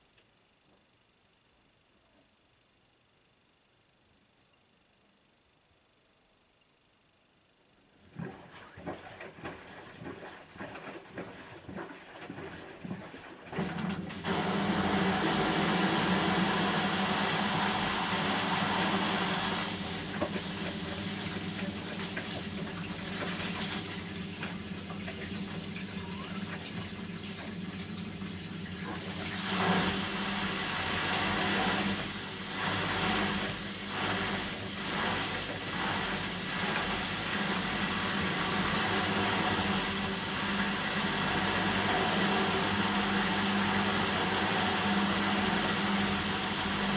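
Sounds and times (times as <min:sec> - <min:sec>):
washing machine humming: 0:07.9 - 0:46.9.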